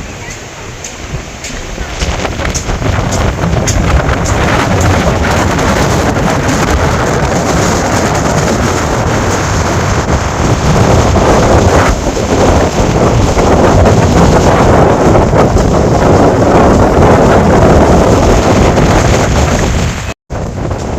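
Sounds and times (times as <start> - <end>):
strong wind blasting microphone: 0.0 - 20.9.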